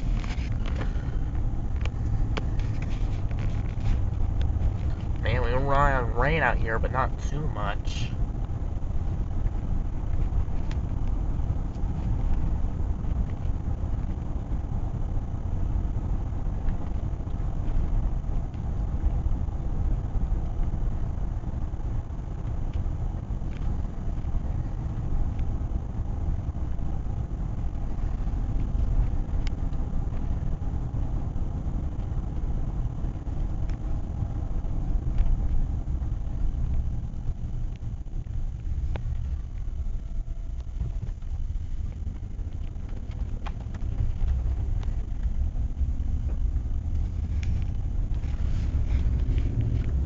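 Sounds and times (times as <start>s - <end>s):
car engine and tyre noise: 0.0s - 50.0s.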